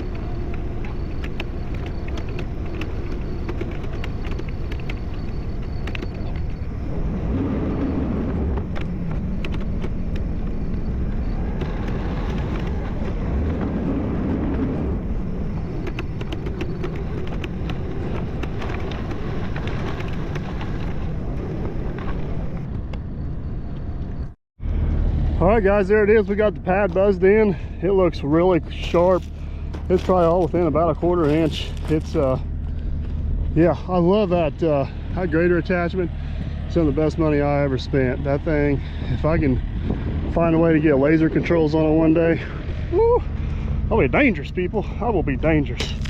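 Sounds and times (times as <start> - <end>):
diesel engine working: 0.0 - 46.0.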